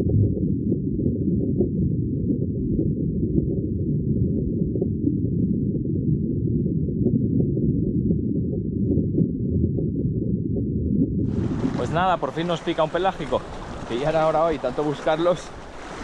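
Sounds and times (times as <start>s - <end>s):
air bubbles rising: 0.0s - 16.0s
muffled underwater rumble: 0.0s - 16.0s.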